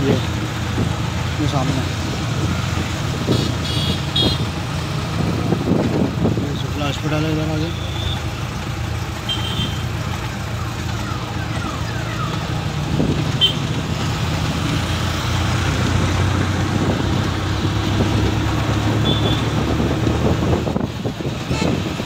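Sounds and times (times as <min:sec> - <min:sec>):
bus engine and road noise: 0:00.0 - 0:22.0
traffic passing: 0:00.0 - 0:22.0.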